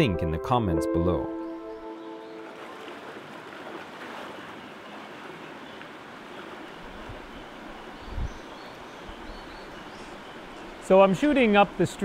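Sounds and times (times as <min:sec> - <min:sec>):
stream rushing over rapids: 0:02.2 - 0:12.0.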